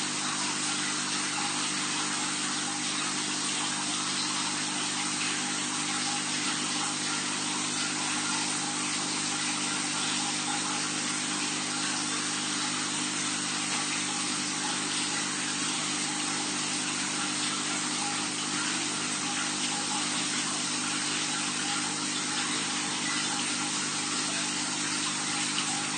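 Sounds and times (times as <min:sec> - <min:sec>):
aquarium pump humming: 0:00.0 - 0:25.9
circulating water hiss: 0:00.0 - 0:25.9.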